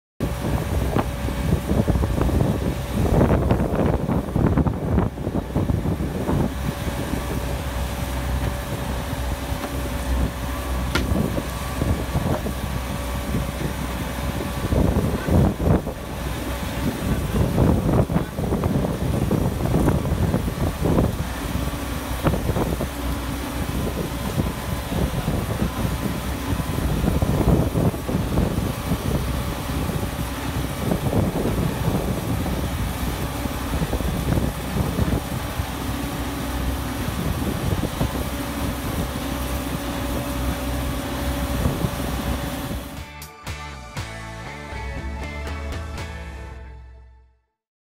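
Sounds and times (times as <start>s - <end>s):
diesel engine humming: 0.2s - 47.0s.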